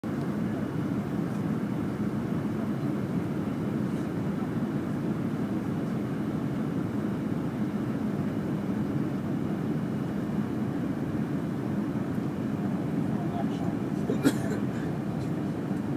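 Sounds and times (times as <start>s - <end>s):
jet airliner cabin drone: 0.0s - 15.9s.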